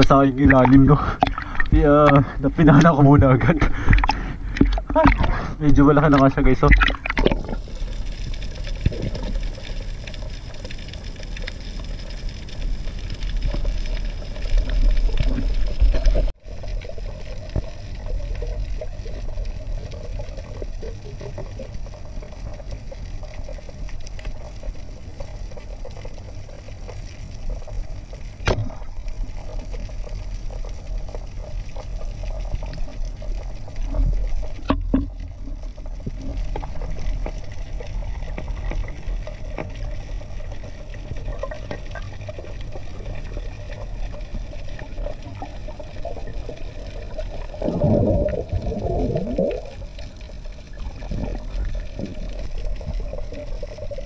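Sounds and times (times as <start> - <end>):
sharp clicks underwater: 0.0 - 12.2, 13.2 - 54.0
low rumble of moving water: 0.0 - 54.0.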